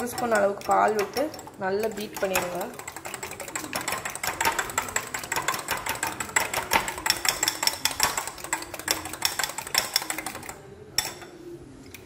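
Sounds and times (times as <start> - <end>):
fork tapping against bowl: 0.0 - 11.3.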